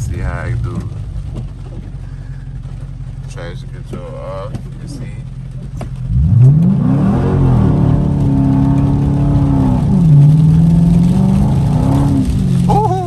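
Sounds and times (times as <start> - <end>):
car engine revving at full throttle: 0.0 - 13.0.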